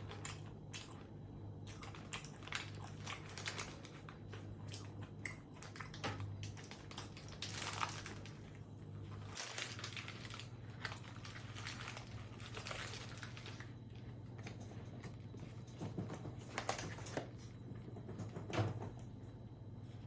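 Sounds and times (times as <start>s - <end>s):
chewing and crunching food: 0.0s - 18.6s
steady low hum: 0.0s - 20.0s
small clicks and crackles: 1.7s - 18.7s.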